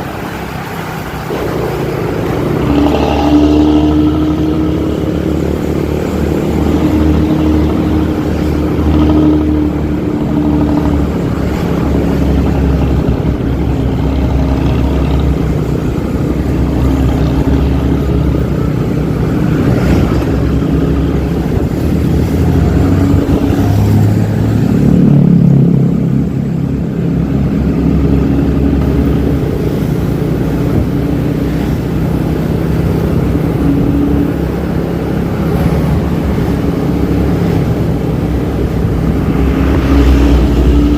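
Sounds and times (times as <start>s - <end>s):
bus engine droning and revving: 0.0s - 40.9s.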